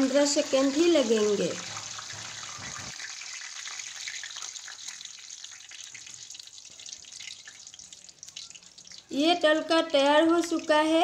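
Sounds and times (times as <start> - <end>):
leaves sizzling in hot oil: 0.0 - 9.2.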